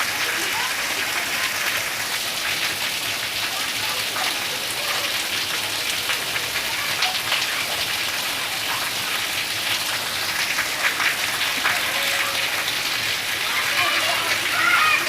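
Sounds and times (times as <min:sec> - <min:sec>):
heavy rain falling: 0:00.0 - 0:15.0
raindrops spattering on surfaces: 0:00.0 - 0:15.0.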